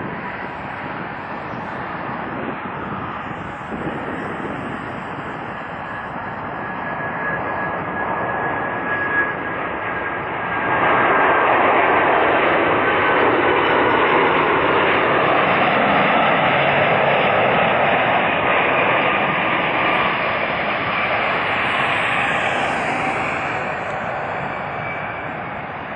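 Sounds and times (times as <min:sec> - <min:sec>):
jet engine noise: 0:00.0 - 0:25.9
thin high jet whine: 0:00.0 - 0:25.9.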